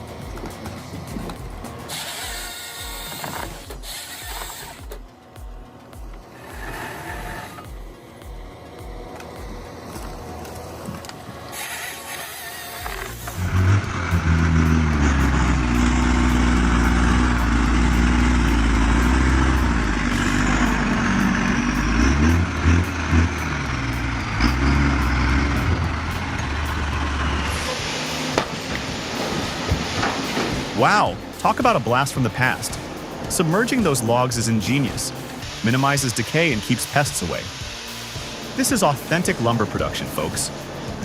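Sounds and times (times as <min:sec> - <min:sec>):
heavy machine engine running: 0:00.0 - 0:41.0.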